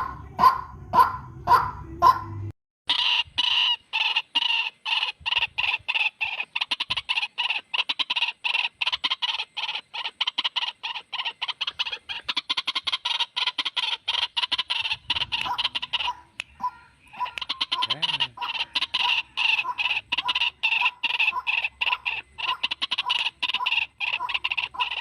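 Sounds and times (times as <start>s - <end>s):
waterhen calling harsh notes: 0.0s - 25.0s.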